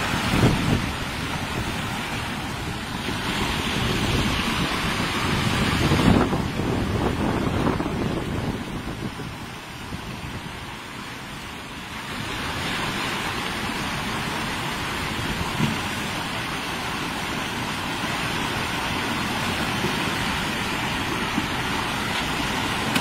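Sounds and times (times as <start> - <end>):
churning surf: 0.0 - 23.0
driving rain: 0.0 - 23.0
wind blowing across microphone: 0.0 - 23.0.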